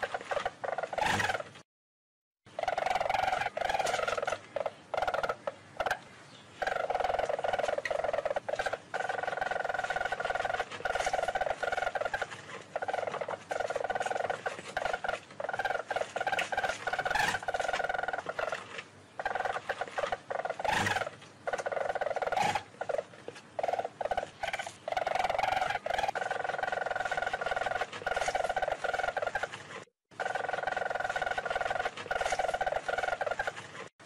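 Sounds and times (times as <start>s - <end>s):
small animal chattering: 0.0s - 1.6s, 2.5s - 33.9s.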